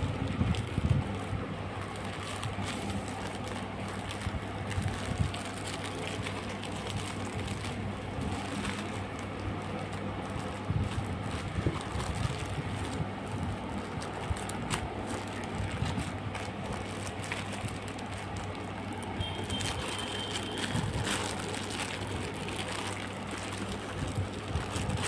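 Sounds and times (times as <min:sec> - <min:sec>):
plastic bag crinkling and tearing: 0:00.0 - 0:25.0.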